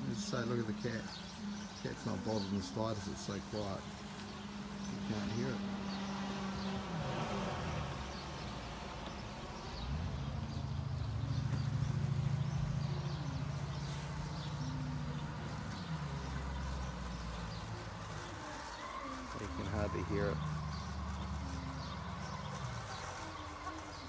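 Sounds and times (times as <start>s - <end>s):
robotic lawn mower humming: 0.0s - 24.0s.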